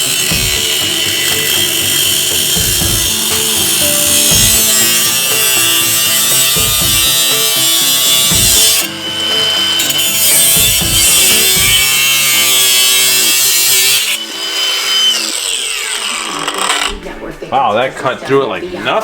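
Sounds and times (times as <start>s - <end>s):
angle grinder cutting metal: 0.0s - 17.0s.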